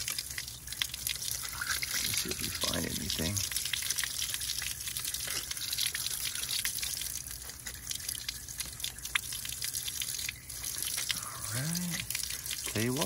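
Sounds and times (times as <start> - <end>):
water drips: 0.0 - 13.0
water spraying and splattering: 0.0 - 13.0.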